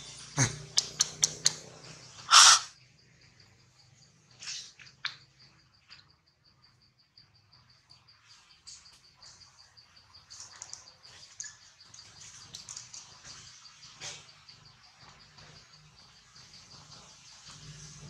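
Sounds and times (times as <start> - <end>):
insect chirping in rapid pulses: 0.0 - 18.0.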